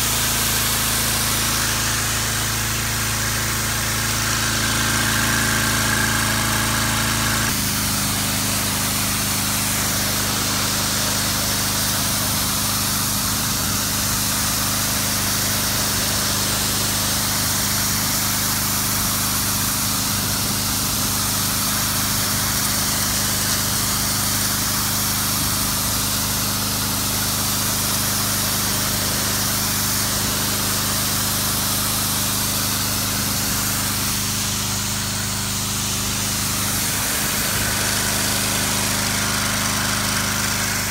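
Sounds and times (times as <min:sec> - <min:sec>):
pressure washer engine running: 0:00.0 - 0:40.9
water jet hissing on concrete: 0:00.0 - 0:40.9.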